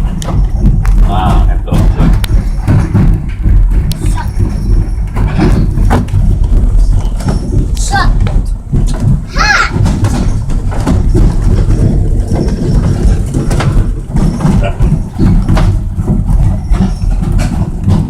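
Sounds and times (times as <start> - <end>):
train rumbling and knocking: 0.0 - 18.0.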